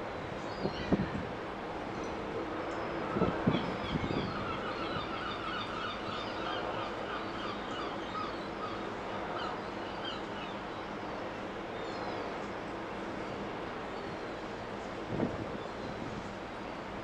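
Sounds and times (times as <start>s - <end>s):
ship engine low hum: 0.0s - 17.0s.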